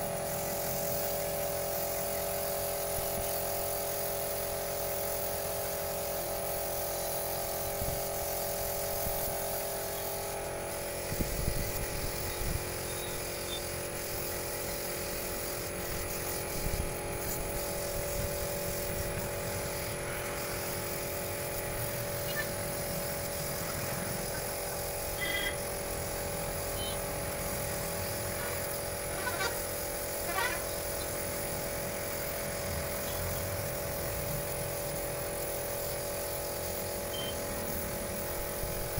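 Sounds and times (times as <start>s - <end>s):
air compressor humming: 0.0s - 38.9s
spray-paint gun hissing: 0.0s - 38.9s.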